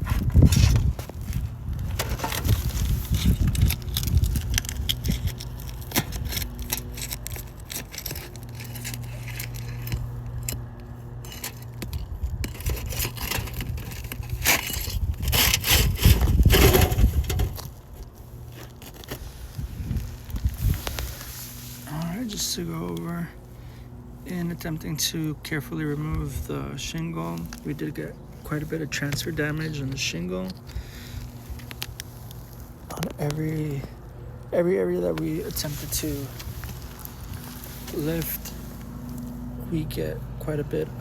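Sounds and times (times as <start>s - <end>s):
roof shingles scraping and crackling: 0.0s - 40.0s.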